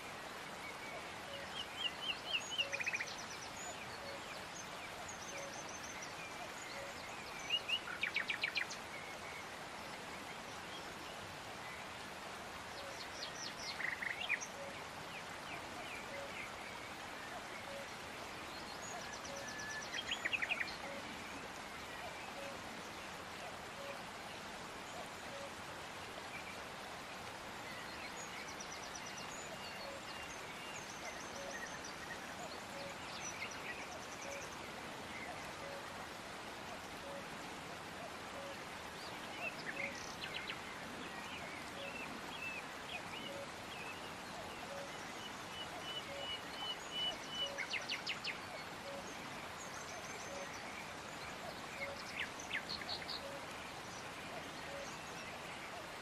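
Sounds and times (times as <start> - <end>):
steady soft hiss: 0.0 - 56.0.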